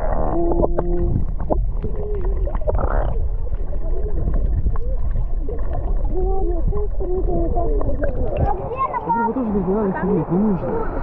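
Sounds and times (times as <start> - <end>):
underwater low rumble: 0.0 - 9.3.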